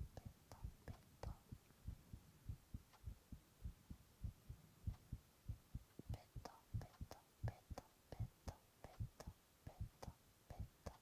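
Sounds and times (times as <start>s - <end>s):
heartbeat thumps: 0.0s - 10.0s.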